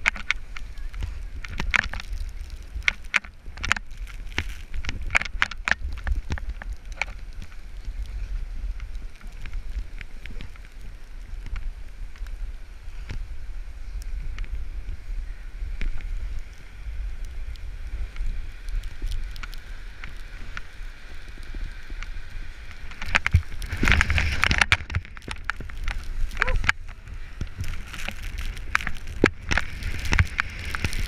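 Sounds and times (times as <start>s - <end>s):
skis scraping over snow: 0.0s - 31.0s
wind rumbling on microphone: 0.0s - 31.0s.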